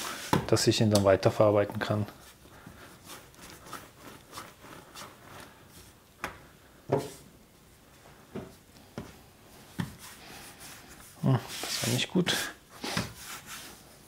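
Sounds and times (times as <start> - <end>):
hands rubbing dough: 0.0 - 7.3, 8.1 - 14.0.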